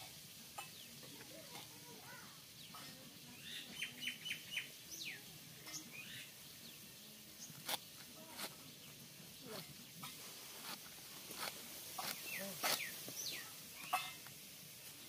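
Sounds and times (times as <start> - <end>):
birds chirping: 0.6 - 15.0.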